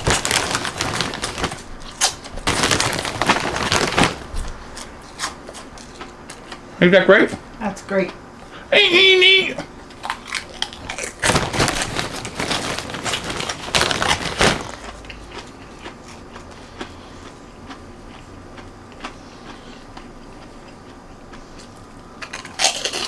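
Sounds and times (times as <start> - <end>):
crunching pork rinds being eaten: 0.0 - 23.0.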